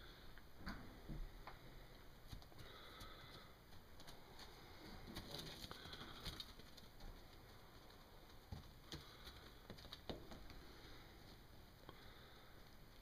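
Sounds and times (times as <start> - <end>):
goat hooves tapping on dirt: 2.2 - 13.0.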